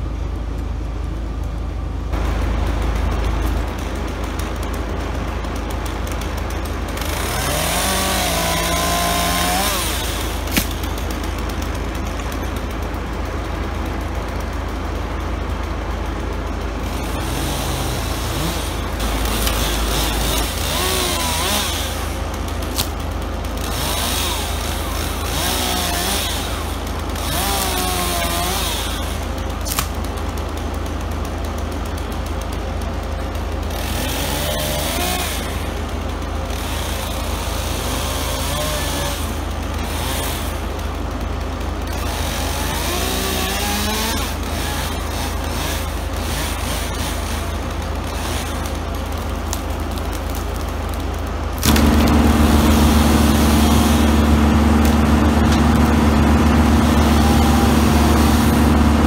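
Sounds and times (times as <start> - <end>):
chainsaw revving: 3.7 - 59.0.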